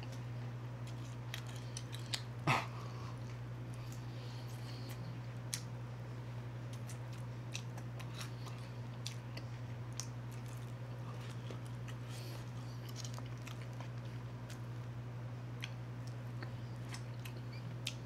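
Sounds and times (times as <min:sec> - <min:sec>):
person chewing chicken wings: 0:00.0 - 0:05.8, 0:06.6 - 0:14.8, 0:15.5 - 0:18.0
steady low hum: 0:00.0 - 0:18.0.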